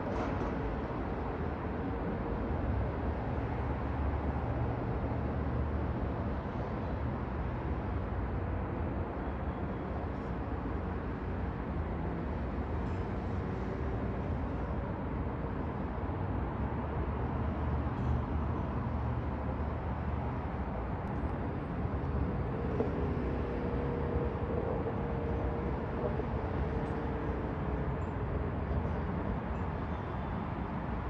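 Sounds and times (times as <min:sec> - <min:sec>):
distant road traffic: 0:00.0 - 0:31.0.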